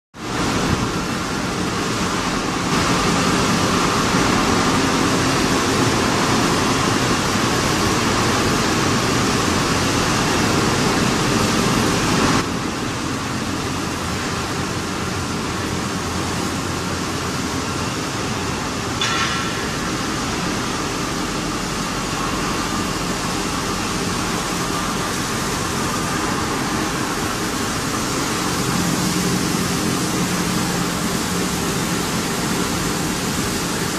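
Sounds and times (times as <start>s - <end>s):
machinery din with low hum: 0.2s - 33.9s.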